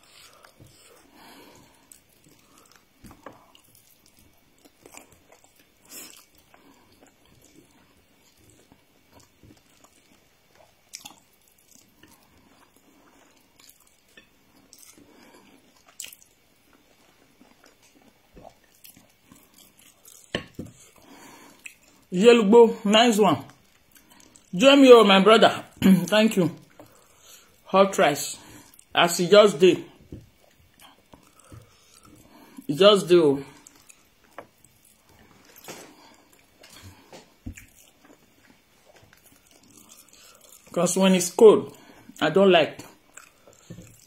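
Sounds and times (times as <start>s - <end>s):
person chewing: 0.0s - 22.1s, 23.4s - 24.6s, 25.6s - 27.7s, 28.3s - 29.0s, 29.8s - 32.7s, 33.4s - 40.8s, 41.7s - 44.0s.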